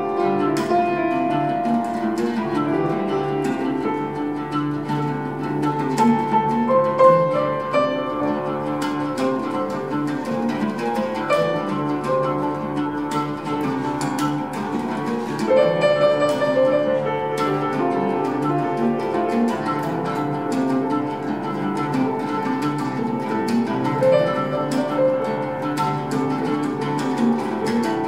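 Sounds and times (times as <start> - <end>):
oud plucked in quick runs: 0.0 - 28.0
piano held tones: 0.0 - 28.0.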